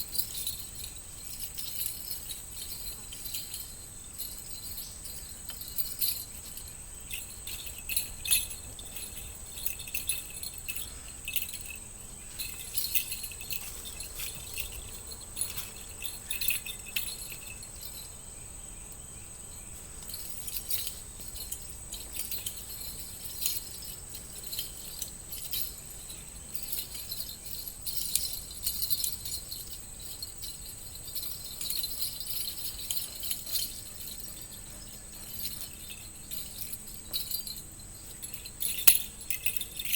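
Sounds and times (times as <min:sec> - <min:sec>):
high insect drone: 0:00.0 - 0:39.9
jingling clinks: 0:00.0 - 0:39.9.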